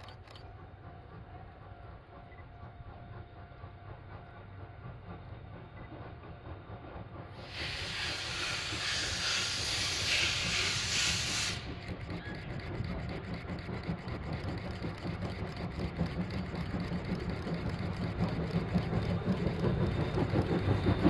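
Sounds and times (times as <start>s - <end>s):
steam locomotive rumble: 0.0s - 21.0s
steam hissing: 3.8s - 21.0s.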